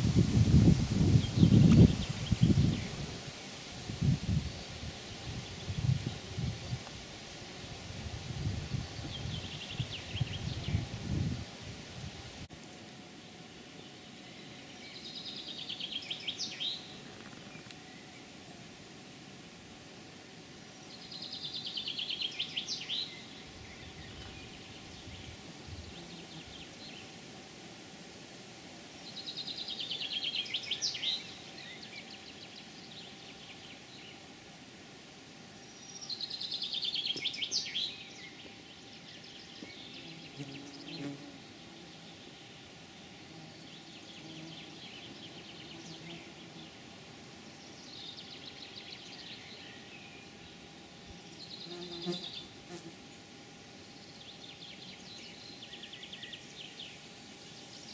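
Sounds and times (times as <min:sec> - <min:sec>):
songbird singing: 0:00.0 - 0:07.0, 0:08.3 - 0:11.8, 0:13.0 - 0:18.6, 0:20.6 - 0:27.2, 0:29.0 - 0:34.3, 0:35.5 - 0:57.9
outdoor background noise: 0:00.0 - 0:57.9.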